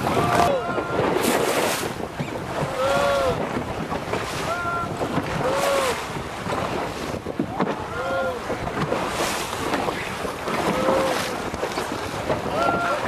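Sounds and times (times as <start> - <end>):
choppy water splashing: 0.0 - 13.0
wind buffeting microphone: 0.0 - 13.0.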